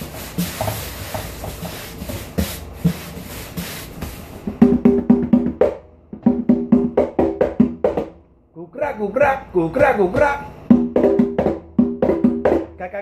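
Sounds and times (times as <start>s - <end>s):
conga drums played by hand: 0.0s - 8.2s, 9.1s - 13.0s.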